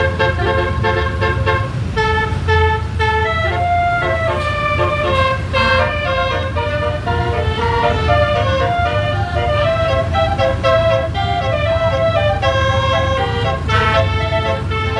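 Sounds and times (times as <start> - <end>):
low bus engine rumble: 0.0 - 14.9
musical air horn playing a tune: 0.0 - 14.9.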